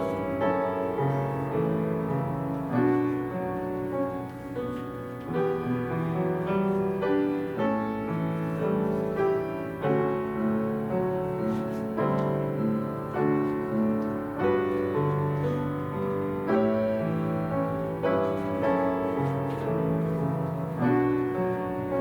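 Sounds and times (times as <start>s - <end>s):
slow gentle piano piece: 0.0s - 22.0s.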